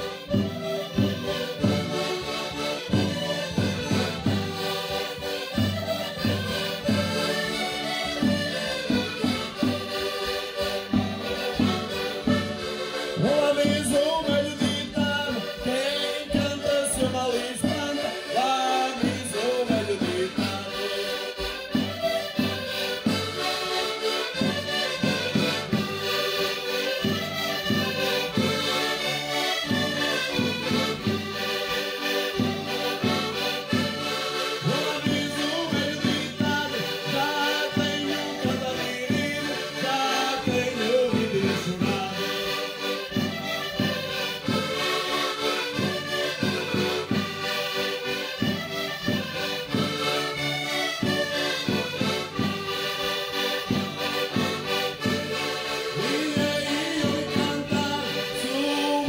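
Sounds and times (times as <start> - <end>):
button accordions playing folk tune: 0.0 - 59.0.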